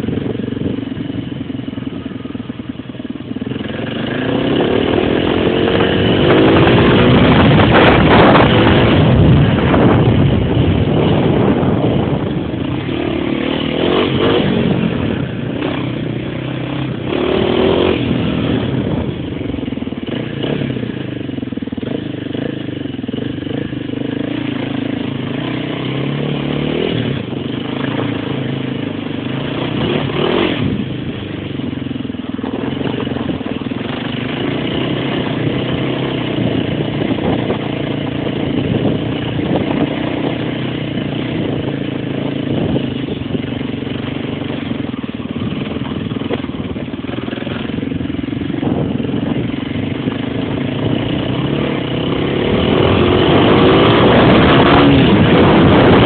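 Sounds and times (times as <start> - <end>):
small engine revving: 3.3 - 56.0.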